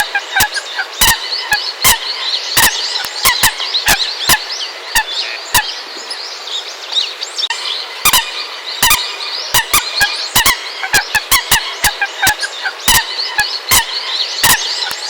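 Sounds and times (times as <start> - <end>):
coots chirping calls: 0.0 - 15.0.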